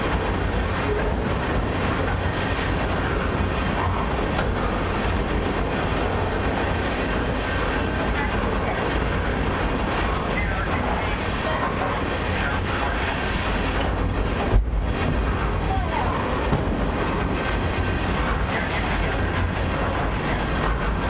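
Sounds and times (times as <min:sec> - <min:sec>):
steel wheels rolling on rail: 0:00.0 - 0:21.0.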